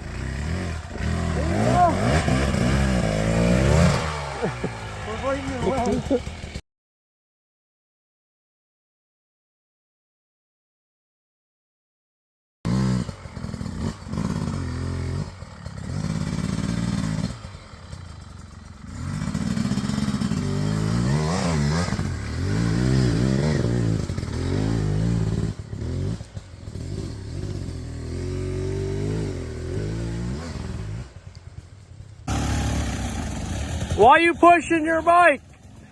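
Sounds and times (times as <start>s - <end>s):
dirt bike engine revving: 0.0s - 6.6s, 12.7s - 31.6s, 32.2s - 35.9s.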